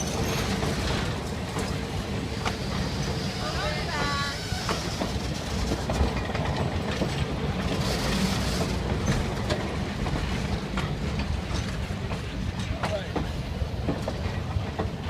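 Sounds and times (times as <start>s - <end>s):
train rumbling past: 0.0s - 15.0s
train wheels clicking over rails: 0.0s - 15.0s.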